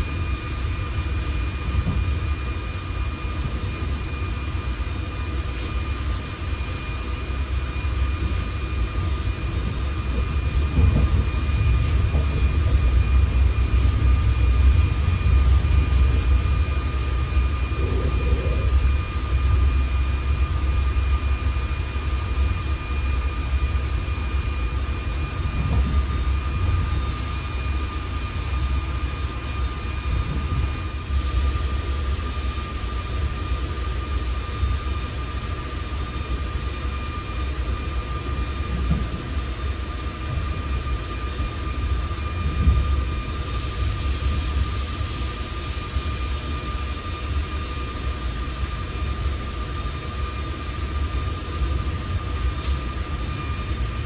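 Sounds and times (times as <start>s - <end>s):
thin steady whine: 0.0s - 54.0s
train wheels rumbling on track: 0.0s - 54.0s.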